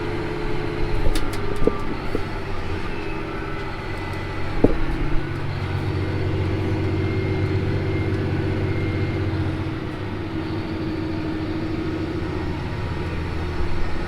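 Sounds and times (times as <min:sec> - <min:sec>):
diesel farm machinery running: 0:00.0 - 0:14.0.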